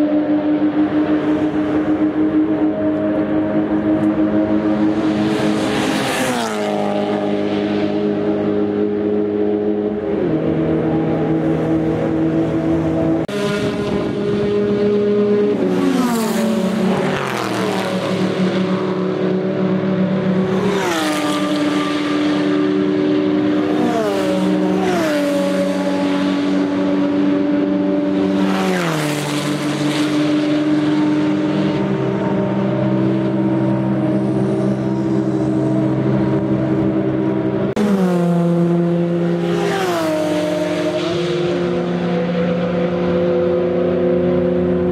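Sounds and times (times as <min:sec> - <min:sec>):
race cars passing by: 0:00.0 - 0:44.9.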